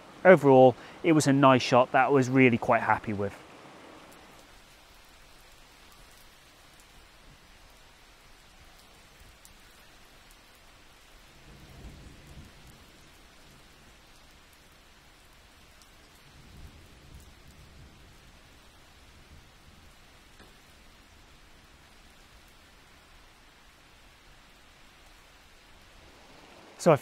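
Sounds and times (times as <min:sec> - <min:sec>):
rain on foliage: 0:00.0 - 0:27.0
raindrop ticks: 0:03.9 - 0:27.0.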